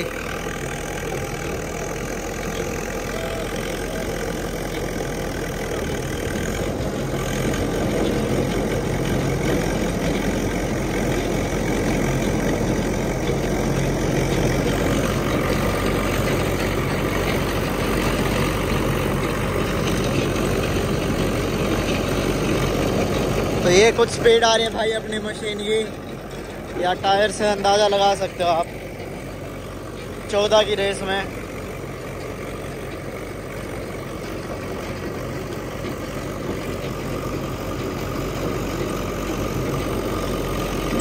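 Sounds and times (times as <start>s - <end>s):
tractor engine droning under load: 0.0s - 41.0s.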